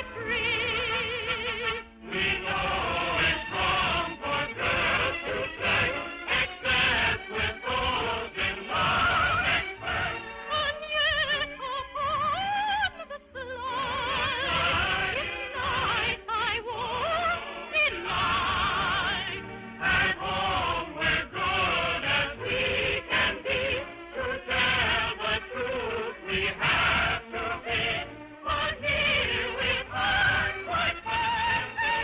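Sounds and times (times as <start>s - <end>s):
musical accompaniment: 0.0s - 32.0s
soprano singing with vibrato: 0.0s - 32.0s.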